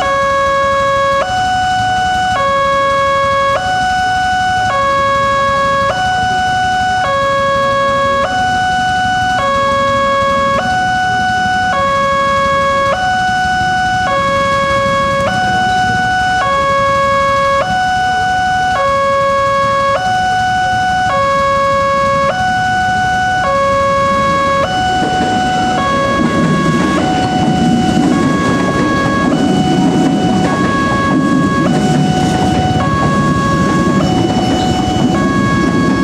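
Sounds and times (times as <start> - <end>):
two-tone level crossing alarm: 0.0 - 36.0.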